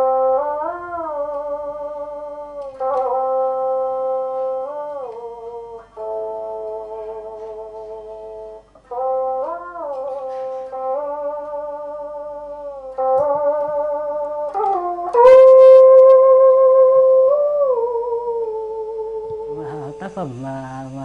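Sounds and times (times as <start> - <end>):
monochord playing slow melody: 0.0 - 21.0.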